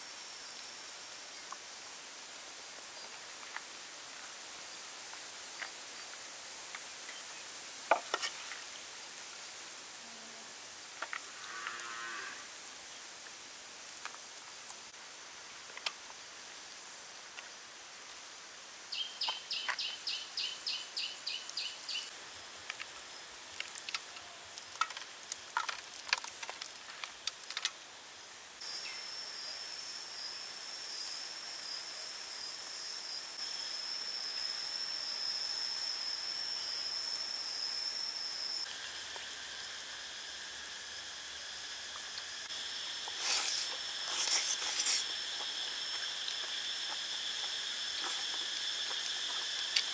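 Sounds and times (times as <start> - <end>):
insect drone: 0.0 - 49.9.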